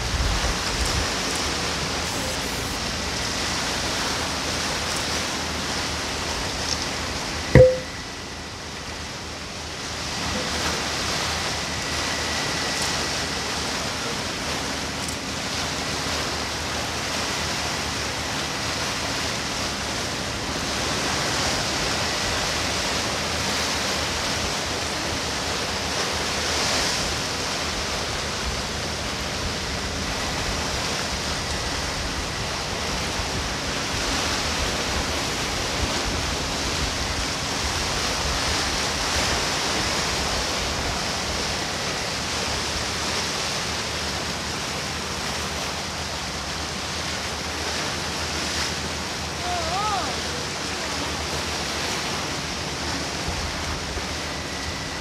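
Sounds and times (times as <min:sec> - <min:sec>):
sea surf washing on shore: 0:00.0 - 0:55.0.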